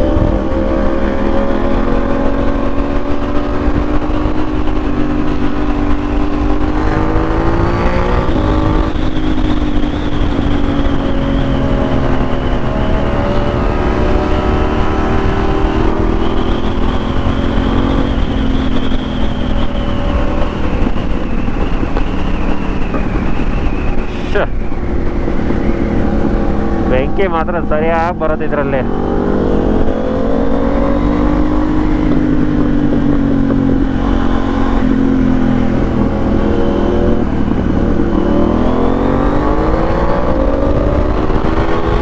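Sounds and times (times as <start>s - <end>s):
motorcycle engine running under load: 0.0s - 42.0s.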